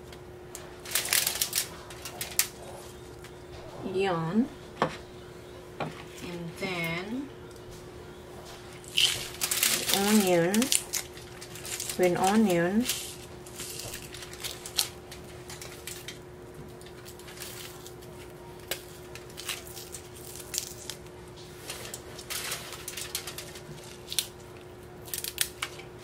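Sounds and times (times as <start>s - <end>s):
faint hum: 0.0s - 26.0s
aluminium foil crinkling: 0.1s - 3.4s, 8.4s - 26.0s.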